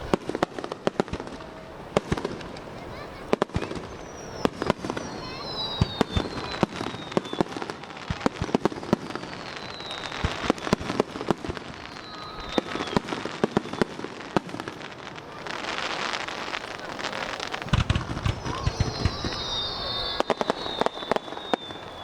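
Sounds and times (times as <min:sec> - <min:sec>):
falling firework whistles: 0:00.0 - 0:22.0
fireworks bangs and crackles: 0:00.0 - 0:22.0.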